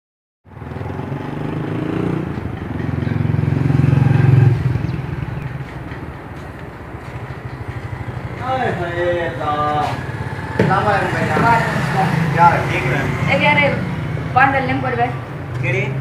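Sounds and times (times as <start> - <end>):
vehicle engine running: 0.5 - 16.0.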